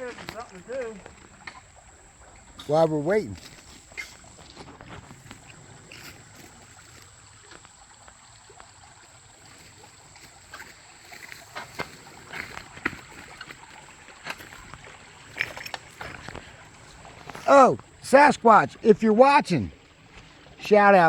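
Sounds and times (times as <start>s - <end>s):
creek water splashing: 0.0s - 21.0s.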